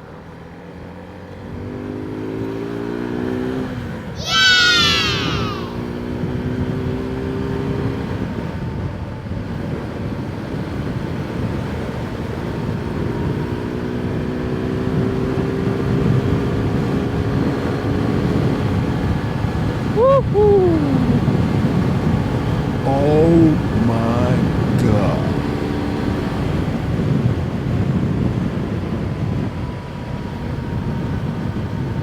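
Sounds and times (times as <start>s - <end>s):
wind and road noise: 0.0s - 23.8s, 24.4s - 32.0s.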